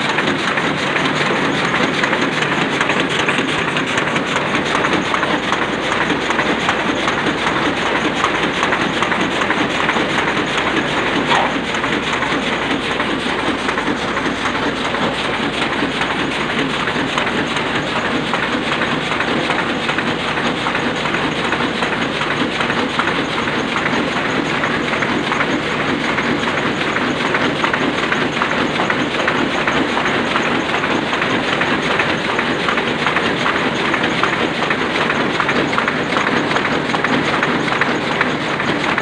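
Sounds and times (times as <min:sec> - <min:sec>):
printing press clattering: 0:00.0 - 0:39.0.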